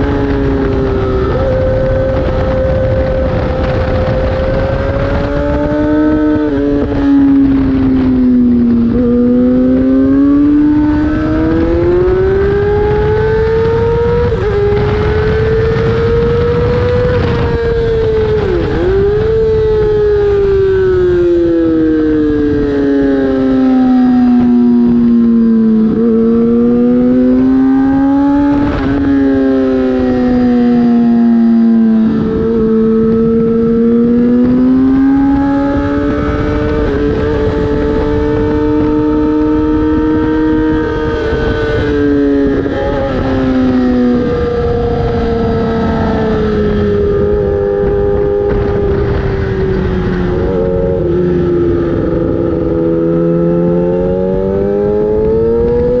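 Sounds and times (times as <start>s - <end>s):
racing motorcycle engine: 0.0s - 56.0s
wind rushing over microphone: 0.0s - 56.0s.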